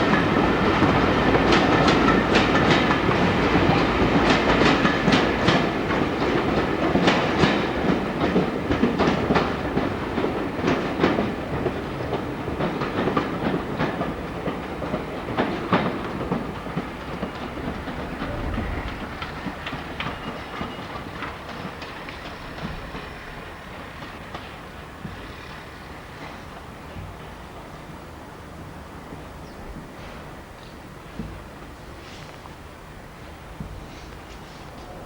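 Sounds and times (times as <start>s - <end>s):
train wheels clicking over rail joints: 0.0s - 35.0s.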